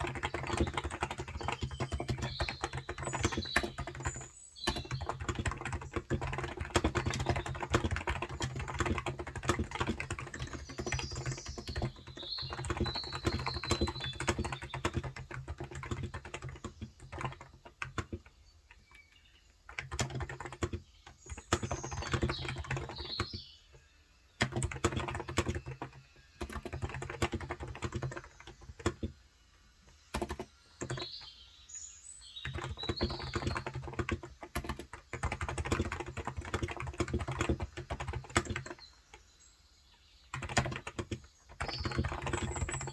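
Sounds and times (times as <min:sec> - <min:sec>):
keyboard typing: 0:00.0 - 0:23.8, 0:24.4 - 0:29.2, 0:29.9 - 0:31.3, 0:32.4 - 0:39.2, 0:40.3 - 0:42.9
birds chirping: 0:00.0 - 0:42.9.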